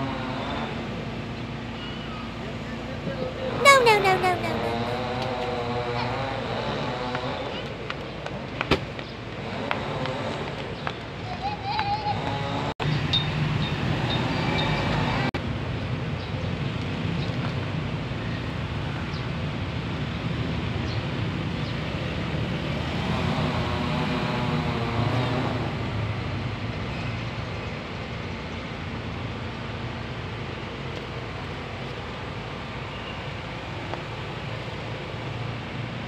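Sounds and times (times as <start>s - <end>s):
road traffic: 0.0s - 36.0s.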